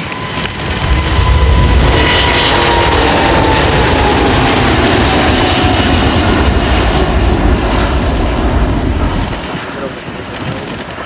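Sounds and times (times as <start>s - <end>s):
jet engines roaring at takeoff: 0.0s - 11.0s.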